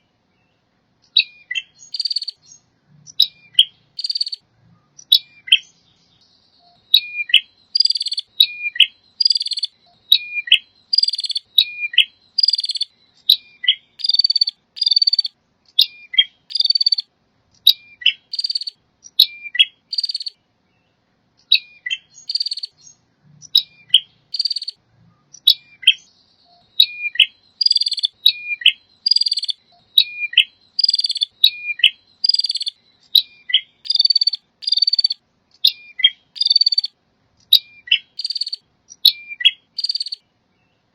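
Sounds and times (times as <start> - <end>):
bird singing buzzy trills: 0.0 - 40.9.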